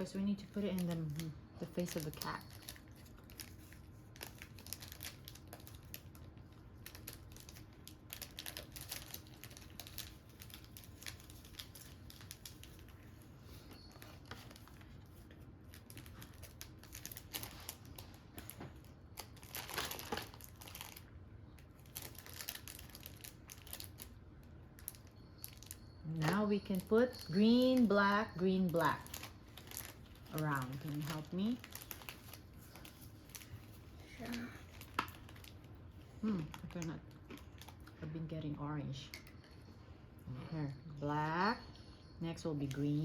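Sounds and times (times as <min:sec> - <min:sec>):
plastic packaging crinkling: 0:00.0 - 0:38.0.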